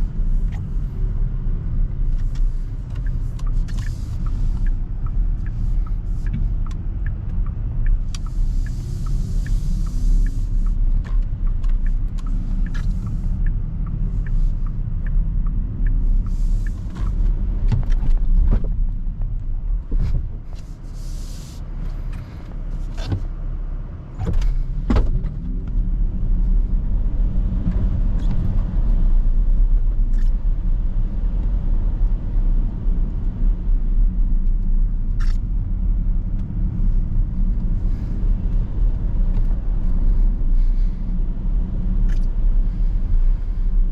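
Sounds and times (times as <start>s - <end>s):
tyre and road rumble: 0.0s - 43.9s.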